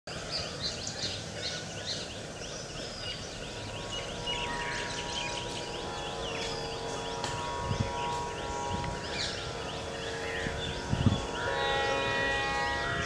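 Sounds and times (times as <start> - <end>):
low multi-tone hum: 0.1 - 13.0
small birds chirping: 0.1 - 13.0.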